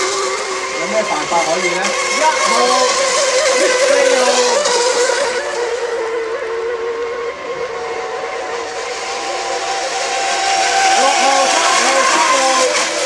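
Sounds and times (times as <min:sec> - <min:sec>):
model boat engines whining: 0:00.0 - 0:13.0.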